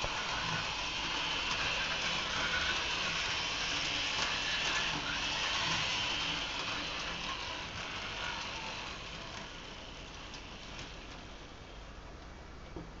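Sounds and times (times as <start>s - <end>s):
model tram motor whirring: 0.0s - 12.3s
wheels clicking on rails: 0.0s - 12.4s.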